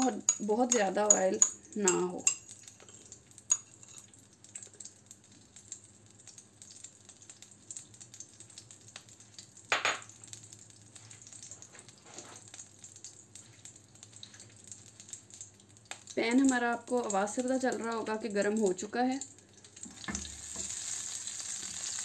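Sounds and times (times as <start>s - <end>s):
butter sizzling in a pan: 0.0s - 22.0s.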